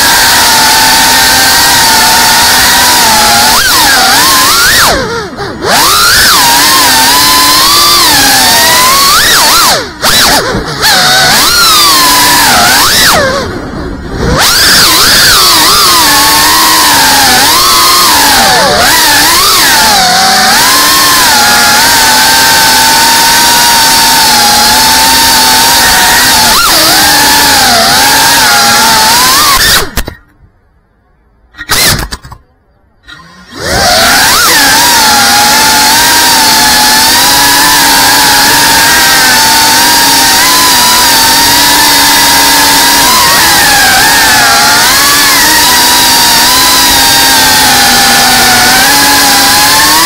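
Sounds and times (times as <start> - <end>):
quadcopter motors whining: 0.0 - 30.3, 31.6 - 32.4, 33.0 - 50.0.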